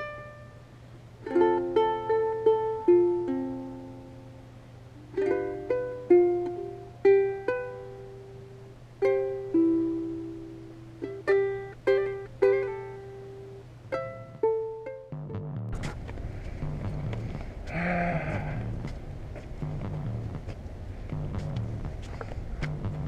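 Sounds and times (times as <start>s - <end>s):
plucked string melody: 0.0s - 17.5s, 19.6s - 23.0s
faint low hum: 0.0s - 23.0s.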